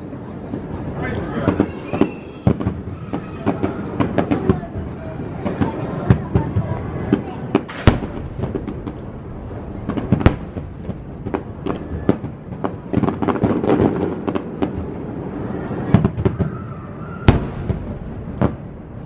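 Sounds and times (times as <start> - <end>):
firework pops and crackles: 0.0 - 19.0
firework shells booming: 0.0 - 19.0.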